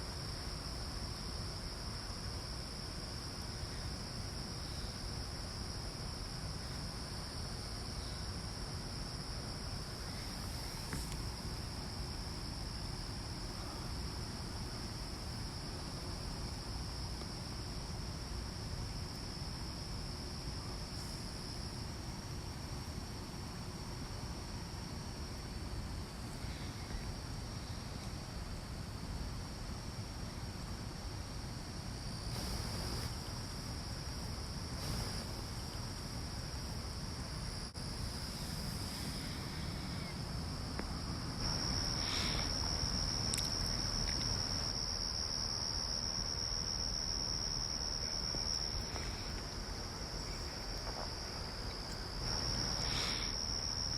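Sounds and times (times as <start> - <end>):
insects trilling: 0.0 - 29.1, 29.7 - 53.9.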